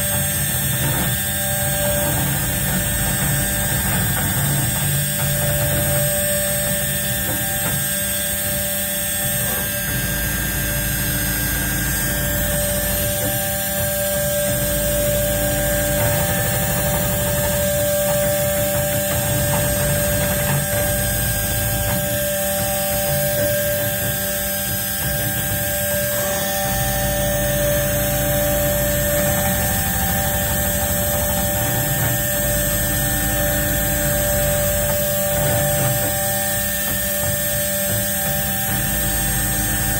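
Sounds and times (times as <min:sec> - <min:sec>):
engraving machine whining: 0:00.0 - 0:39.9.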